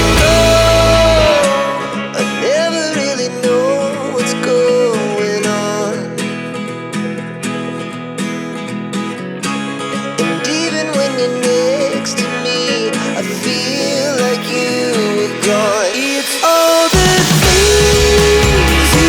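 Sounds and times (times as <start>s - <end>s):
acoustic guitar song with beat: 0.0s - 19.0s.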